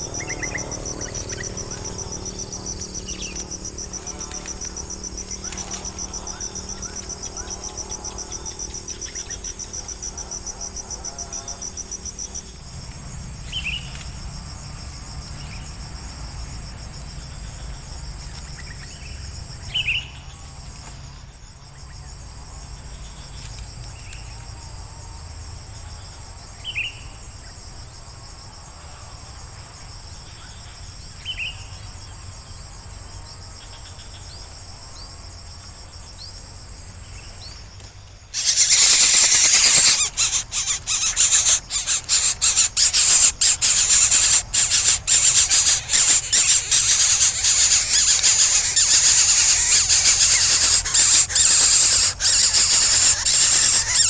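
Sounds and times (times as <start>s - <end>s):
bird chirps: 0.0s - 54.0s
insect trill: 0.0s - 54.0s.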